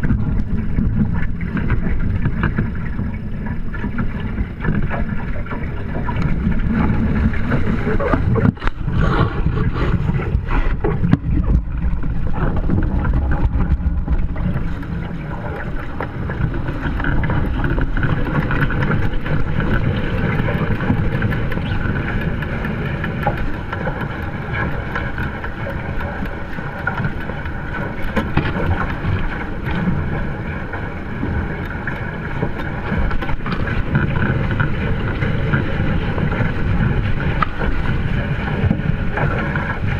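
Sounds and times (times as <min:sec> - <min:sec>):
water rushing along hulls: 0:00.0 - 0:39.9
wind buffeting microphone: 0:00.0 - 0:39.9.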